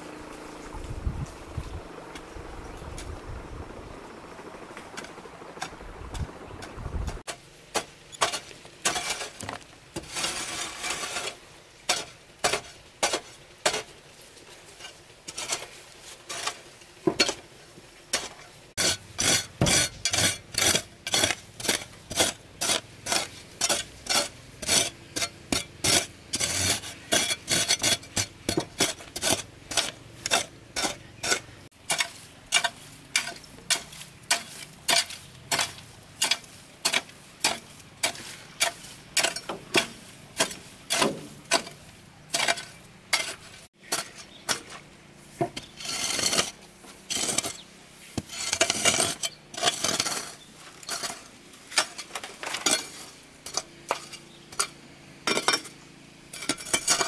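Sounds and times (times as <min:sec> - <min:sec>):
sharp scraping strokes by hand: 0:07.1 - 0:17.4, 0:18.1 - 0:54.7.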